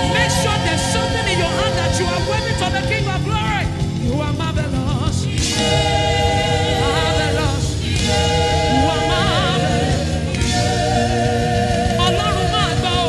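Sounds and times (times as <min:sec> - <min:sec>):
backing music: 0:00.0 - 0:13.0
voices singing gospel: 0:00.0 - 0:13.0.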